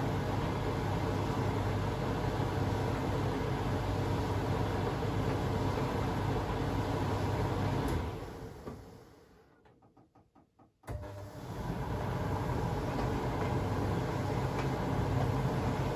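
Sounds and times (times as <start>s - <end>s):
washing machine humming: 0.0s - 9.4s, 10.9s - 15.9s.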